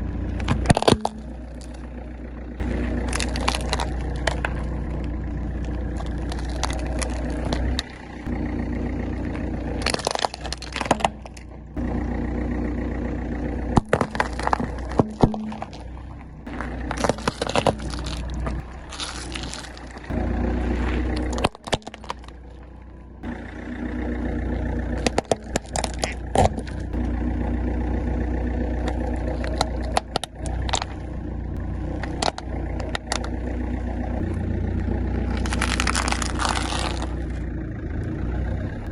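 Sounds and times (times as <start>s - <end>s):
tyres crushing crunchy objects: 0.0s - 37.5s
car engine running: 0.0s - 38.9s.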